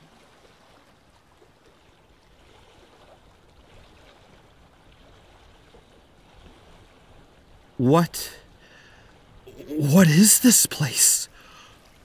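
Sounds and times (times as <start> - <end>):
stream flowing gently: 0.0 - 12.0.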